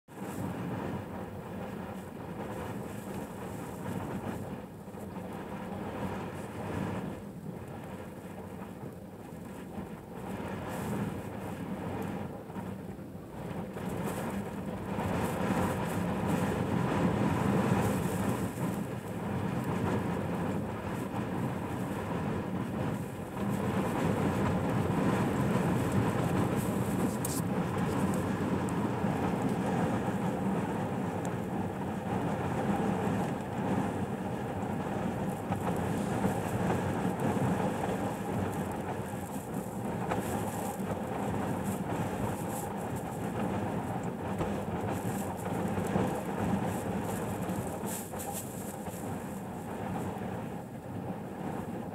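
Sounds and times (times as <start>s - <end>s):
strong wind buffeting a truck: 0.1s - 51.9s.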